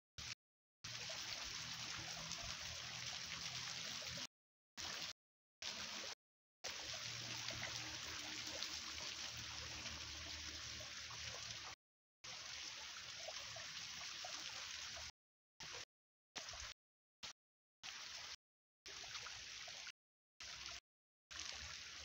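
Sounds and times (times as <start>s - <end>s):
flowing water rushing: 0.2s - 15.8s, 18.9s - 22.0s.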